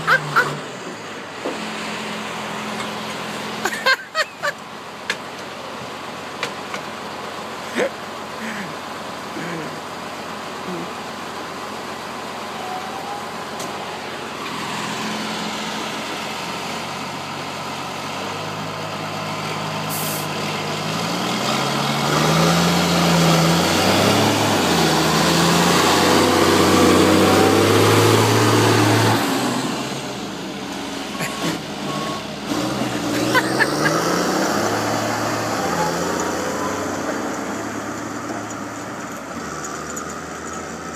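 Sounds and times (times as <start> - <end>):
truck diesel engine shifting gears: 0.0 - 40.9.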